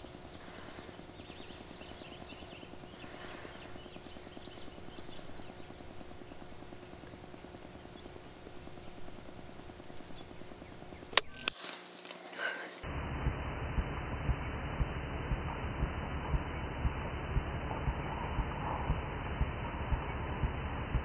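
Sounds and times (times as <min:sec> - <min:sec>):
faint background hum: 0:00.0 - 0:21.0.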